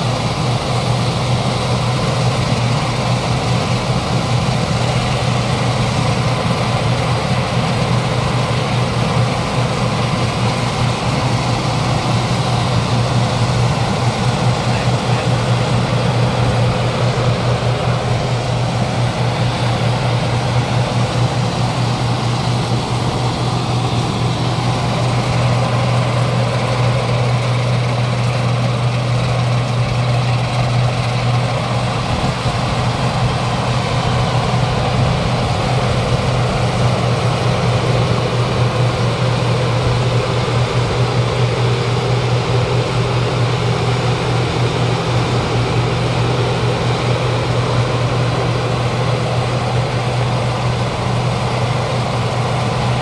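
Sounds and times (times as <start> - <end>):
combine harvester engine drone: 0.0 - 53.0
dense mechanical noise: 0.0 - 53.0.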